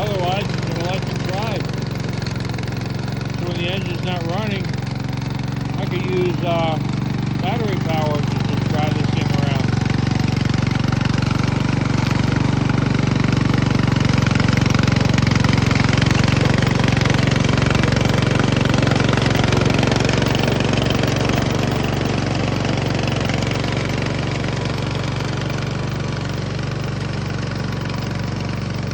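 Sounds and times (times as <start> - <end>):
small petrol engine running: 0.0 - 28.9.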